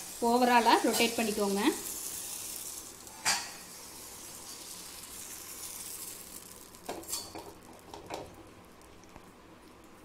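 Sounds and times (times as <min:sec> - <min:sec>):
batter sizzling in a pan: 0:00.0 - 0:09.7.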